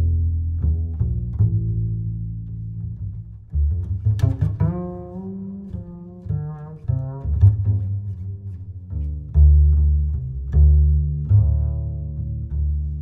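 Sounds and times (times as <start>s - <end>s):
music with deep bass line: 0.0s - 13.0s.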